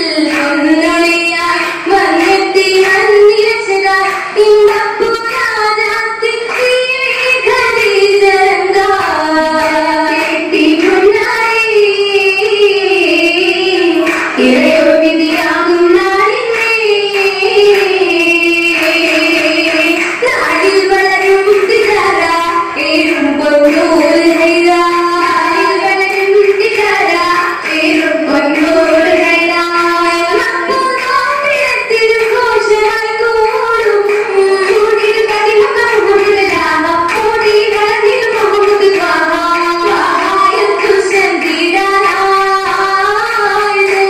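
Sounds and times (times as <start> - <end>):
girls singing: 0.0 - 44.0.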